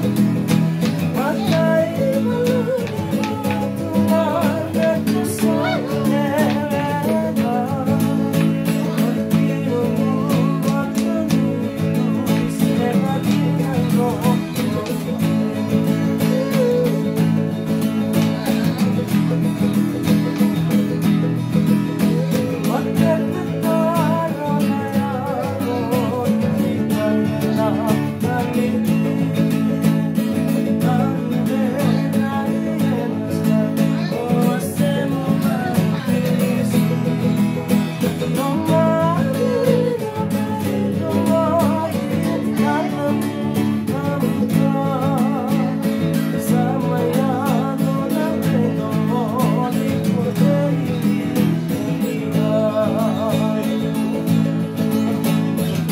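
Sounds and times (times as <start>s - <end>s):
acoustic guitar strumming: 0.0s - 55.9s
person singing: 0.0s - 55.9s.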